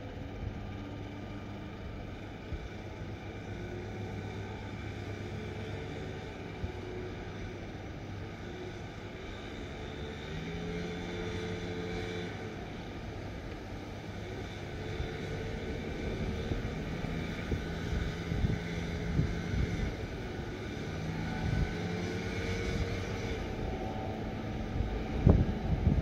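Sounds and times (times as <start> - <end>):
motor drone with rising tone: 0.0 - 26.0.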